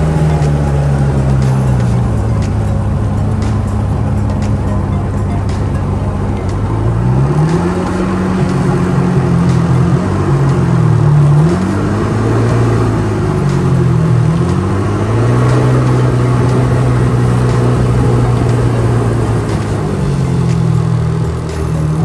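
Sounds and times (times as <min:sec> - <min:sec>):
jet ski engine running: 0:00.0 - 0:22.0.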